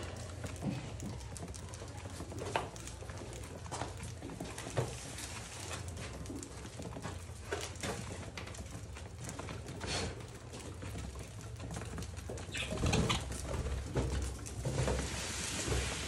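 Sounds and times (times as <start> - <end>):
birds pecking at seed: 0.0 - 16.0.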